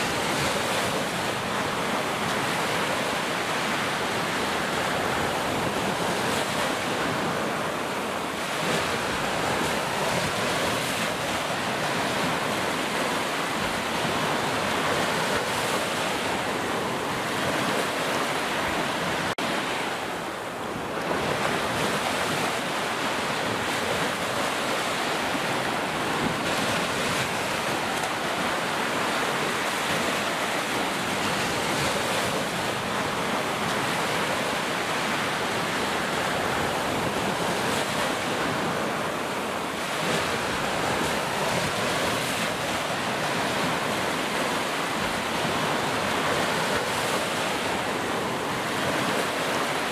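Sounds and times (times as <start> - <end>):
ocean waves crashing on shore: 0.0 - 49.9.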